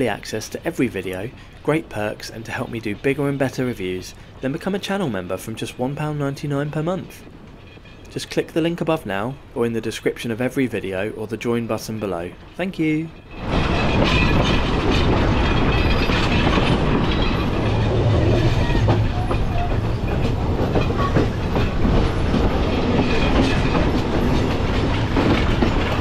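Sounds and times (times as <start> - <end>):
train clickety-clack: 0.0 - 26.0
train wheels rumbling on rails: 0.0 - 26.0.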